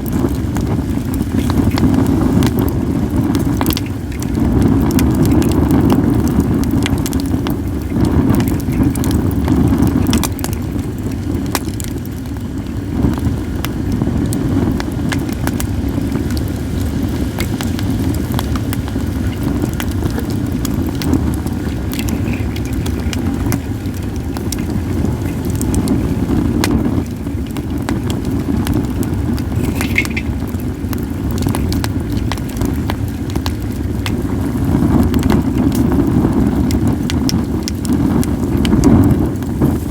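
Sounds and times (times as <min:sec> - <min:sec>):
firewood crackling and popping: 0:00.0 - 0:39.9
wind on microphone: 0:00.0 - 0:39.9.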